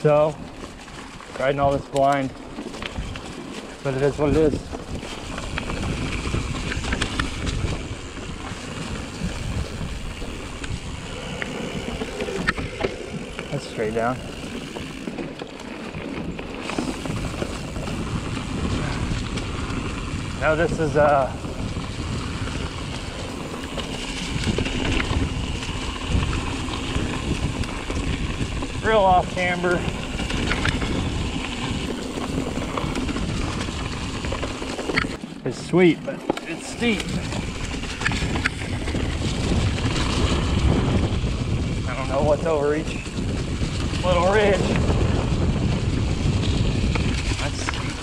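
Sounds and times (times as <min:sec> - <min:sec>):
bike clicks: 0:00.0 - 0:48.0
bike tyres rolling on dirt: 0:00.0 - 0:48.0
wind buffeting microphone: 0:00.0 - 0:48.0.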